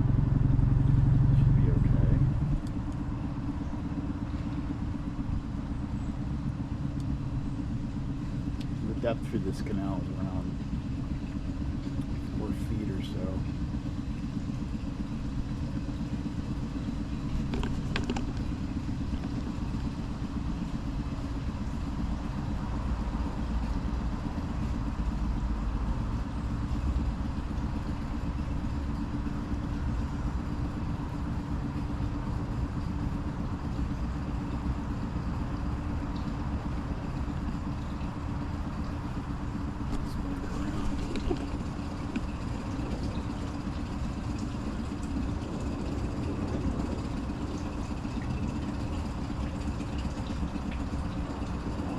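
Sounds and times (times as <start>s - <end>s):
outboard motor droning: 0.0s - 51.9s.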